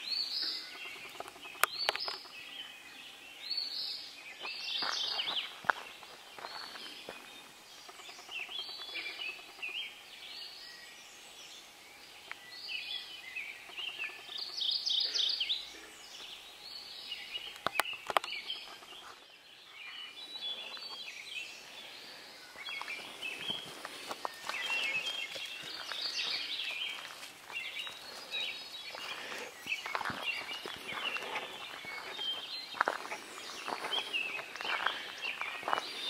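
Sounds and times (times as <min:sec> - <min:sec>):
background hiss: 0:00.0 - 0:36.0
songbirds singing: 0:00.0 - 0:36.0.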